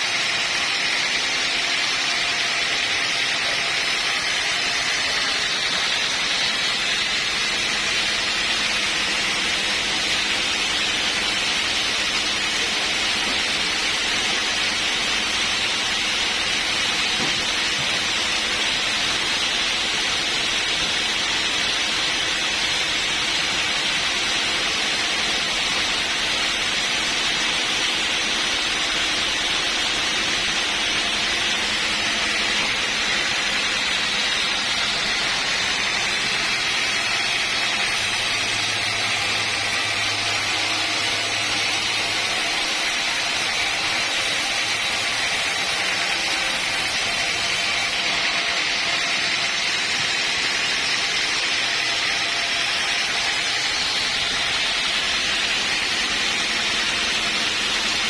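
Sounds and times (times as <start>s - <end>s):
bandsaw cutting log: 0.0s - 58.0s.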